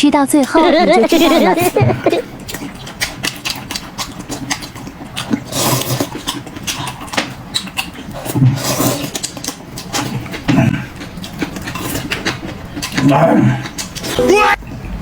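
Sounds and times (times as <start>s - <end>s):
person chewing with mouth clicks: 1.2s - 15.0s.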